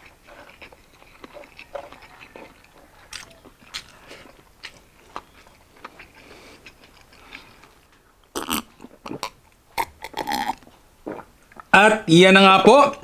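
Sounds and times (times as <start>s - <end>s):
chewing: 0.0s - 11.7s.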